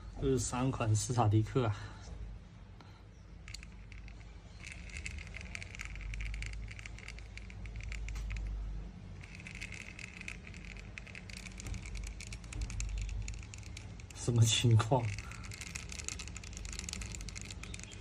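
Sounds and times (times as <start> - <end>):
fishing reel clicking rattle: 3.4 - 18.0.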